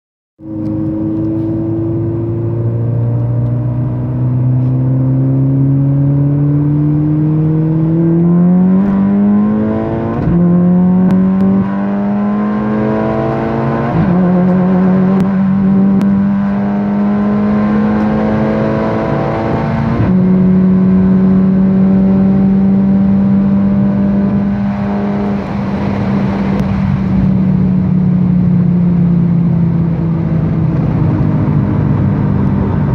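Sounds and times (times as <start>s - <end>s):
car engine accelerating: 0.4s - 32.9s.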